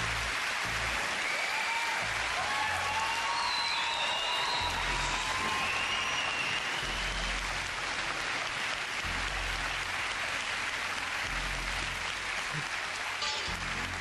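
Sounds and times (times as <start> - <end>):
low bass background music: 0.0 - 1.2, 2.0 - 3.3, 4.2 - 12.8, 13.4 - 14.0
audience applauding: 0.0 - 14.0.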